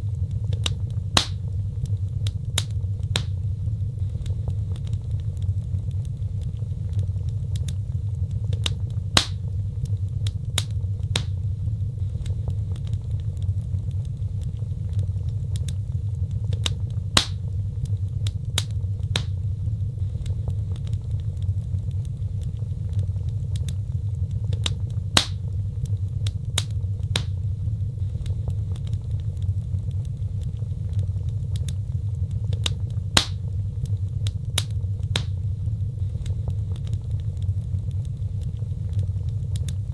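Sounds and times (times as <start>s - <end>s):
fire crackling and popping: 0.0s - 39.9s
fire roaring: 0.0s - 39.9s.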